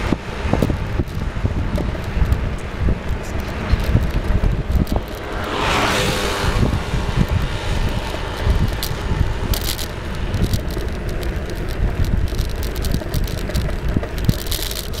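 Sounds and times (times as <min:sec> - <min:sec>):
road noise rumble: 0:00.0 - 0:15.0
wind noise on microphone: 0:00.0 - 0:15.0.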